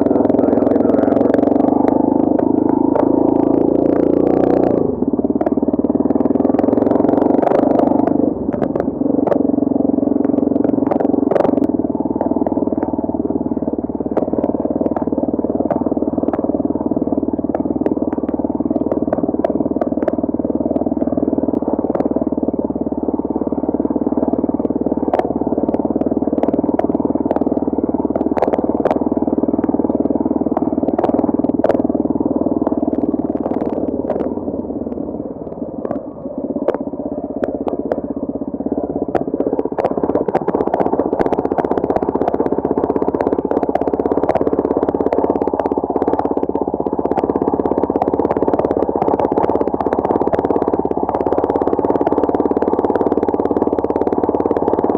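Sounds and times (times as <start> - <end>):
clicks and knocks from bumps: 0.0 - 54.9
motorbike engine droning: 0.0 - 54.9.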